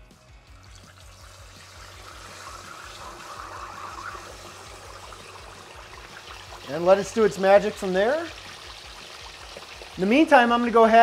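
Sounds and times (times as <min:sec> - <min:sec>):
steak sizzling in hot oil: 0:00.5 - 0:10.7.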